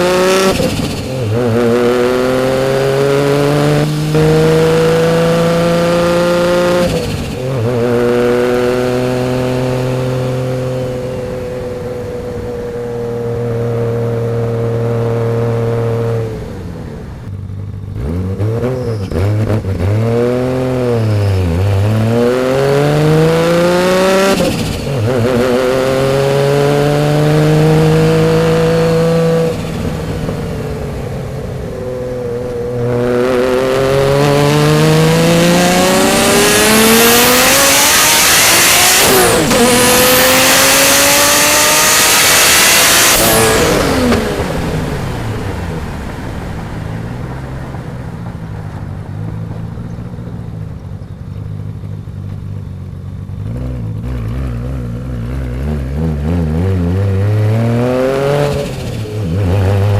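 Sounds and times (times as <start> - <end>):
turbocharged car engine revving: 0.0 - 16.6, 17.6 - 46.9, 53.2 - 59.9.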